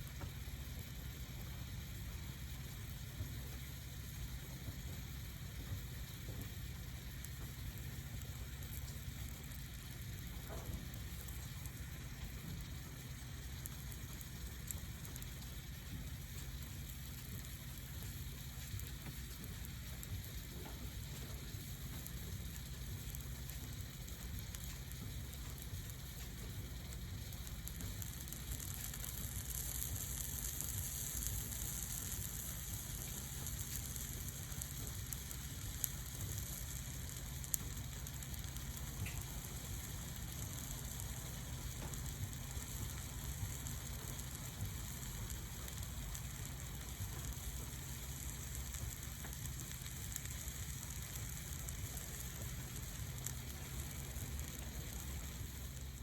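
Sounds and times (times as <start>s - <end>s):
fire popping: 0.0s - 56.0s
wood fire hissing: 0.0s - 56.0s.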